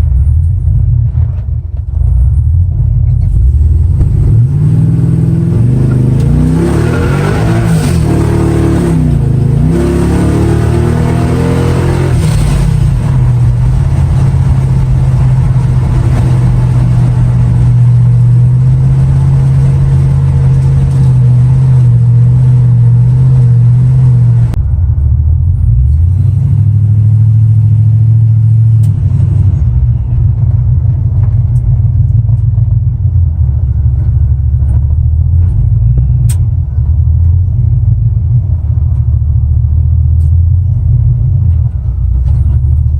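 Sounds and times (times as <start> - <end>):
supercharged engine rumbling: 0.0 - 42.9.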